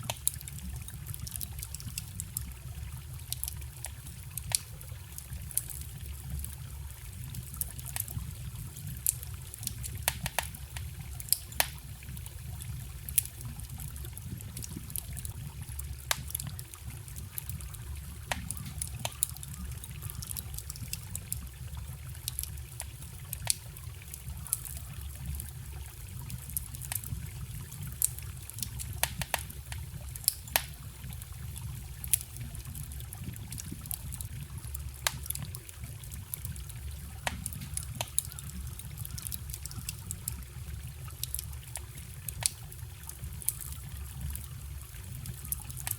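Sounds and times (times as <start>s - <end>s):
stream trickling: 0.0s - 45.9s
wood fire crackling: 0.0s - 45.9s.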